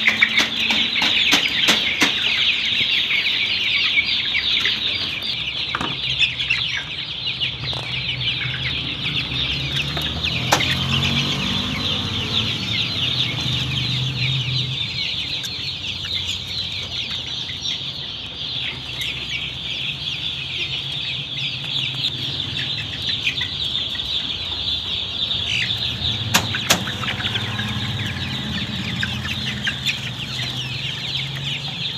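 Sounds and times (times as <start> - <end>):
chicks peeping: 0.0 - 31.9.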